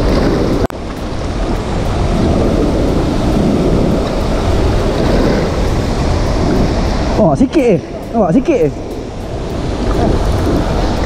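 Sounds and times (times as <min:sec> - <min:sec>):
water rushing and churning: 0:00.0 - 0:11.0.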